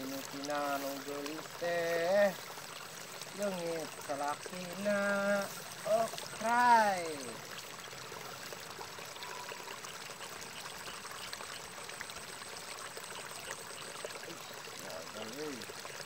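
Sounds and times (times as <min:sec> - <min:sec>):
water trickling in a ditch: 0:00.0 - 0:16.0.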